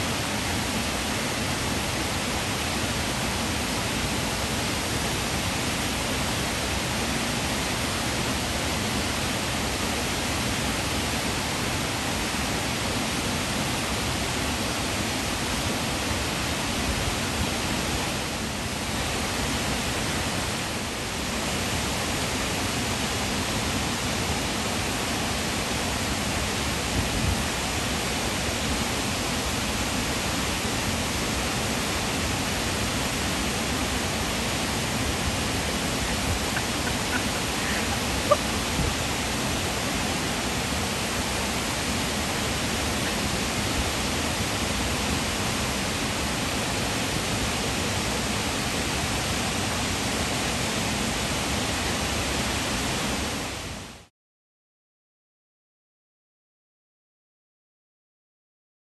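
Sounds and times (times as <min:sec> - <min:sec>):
water roaring over a dam spillway: 0:00.0 - 0:54.1.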